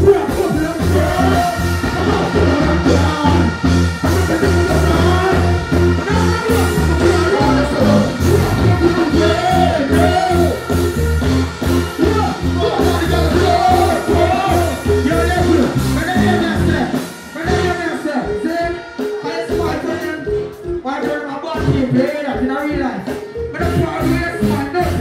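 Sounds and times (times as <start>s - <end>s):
bass-heavy dancehall beat: 0.0s - 25.0s.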